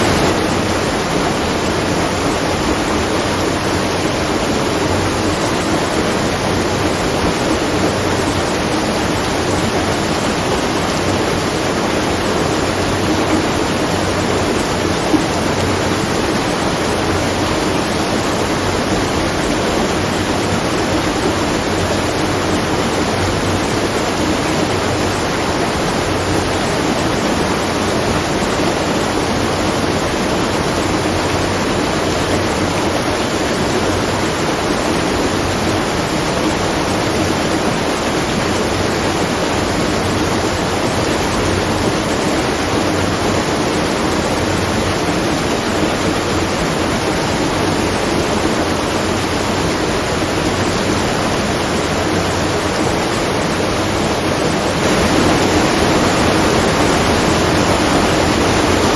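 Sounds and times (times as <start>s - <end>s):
water rushing and splashing: 0.0s - 58.9s.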